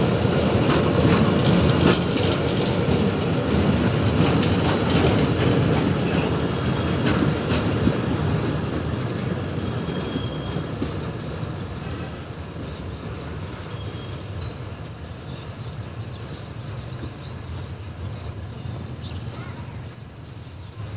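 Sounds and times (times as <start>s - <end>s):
freight wagons rolling on rails: 0.0s - 20.9s.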